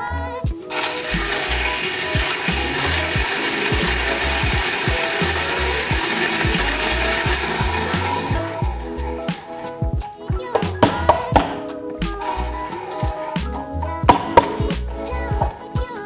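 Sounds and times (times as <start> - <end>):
background music with bass beat: 0.0 - 16.0
hand grinder crunching beans: 0.0 - 16.0.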